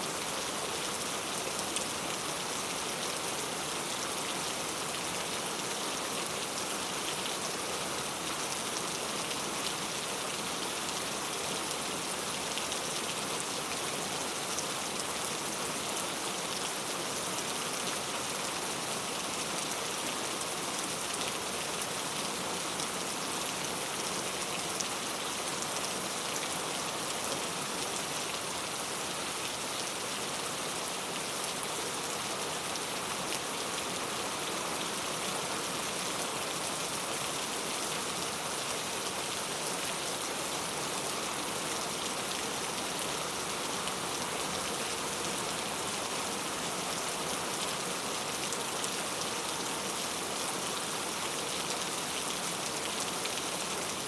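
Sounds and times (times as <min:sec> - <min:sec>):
heavy rain on hard street: 0:00.0 - 0:54.0.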